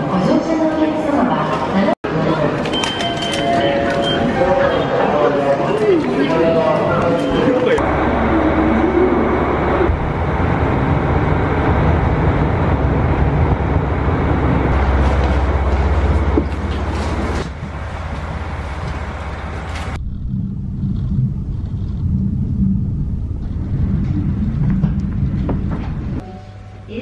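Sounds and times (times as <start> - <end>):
train low hum: 0.0 - 27.0
moving train rumble from inside: 2.6 - 26.2.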